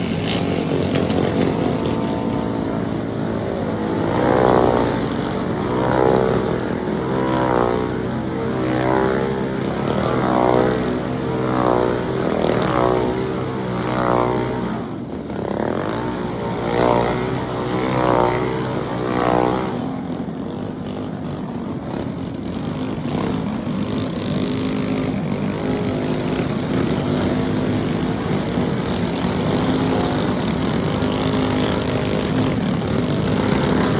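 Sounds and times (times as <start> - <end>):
small engine revving: 0.0 - 33.9.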